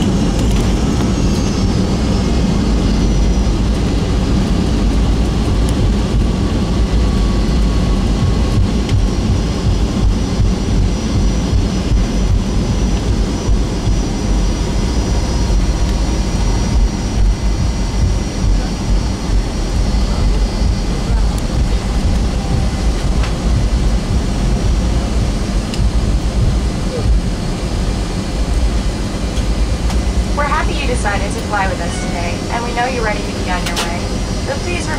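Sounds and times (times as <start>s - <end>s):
jet engines running at low power: 0.0s - 34.9s.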